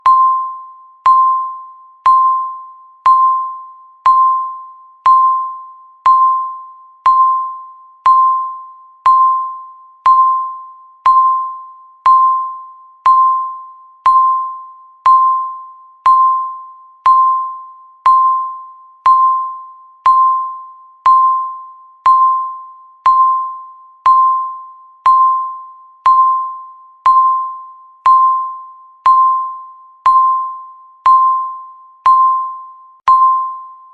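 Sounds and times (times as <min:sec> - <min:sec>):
timer beeping: 0:00.0 - 0:33.9.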